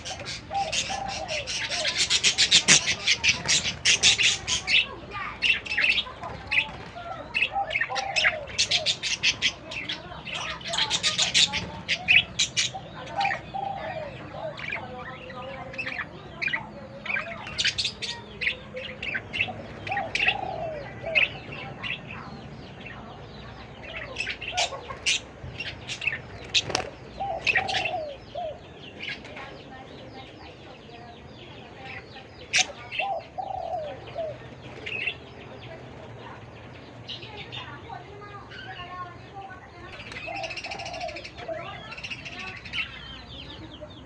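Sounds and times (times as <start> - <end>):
budgerigars chirping and chattering: 0.0 - 44.0.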